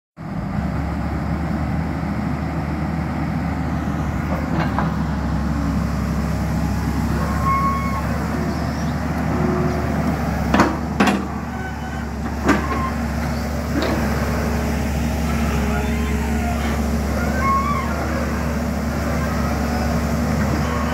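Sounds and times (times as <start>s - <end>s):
excavator diesel engine running: 0.2s - 20.9s.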